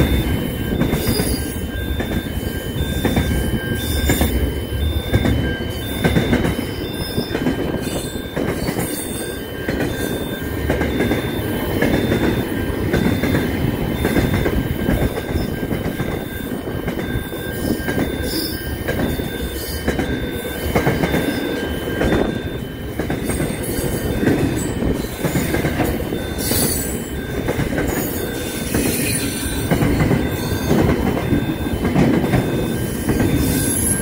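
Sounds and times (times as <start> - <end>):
freight train wagons rumbling: 0.0 - 34.0
two-note electronic beeping: 0.0 - 34.0.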